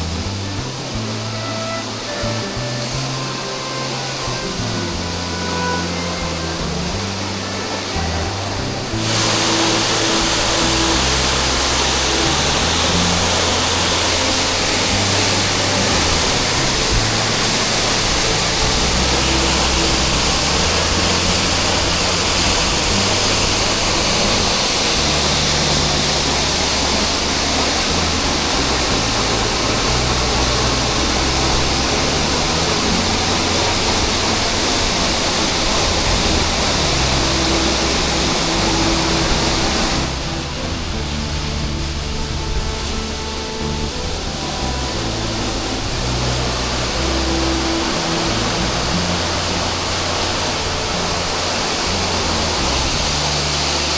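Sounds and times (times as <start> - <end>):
background music bass notes: 0.0 - 53.9
waterfall roaring: 0.0 - 53.9.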